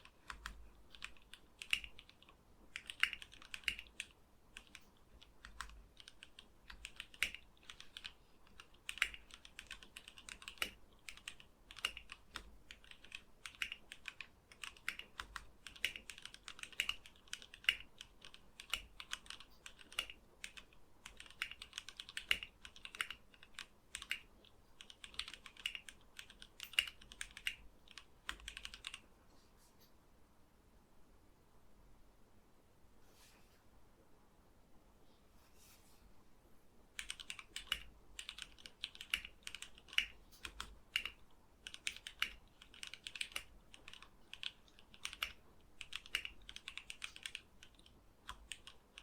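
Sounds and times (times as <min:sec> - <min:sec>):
fast typing on mechanical keyboard: 0:00.0 - 0:29.0, 0:37.0 - 0:49.0.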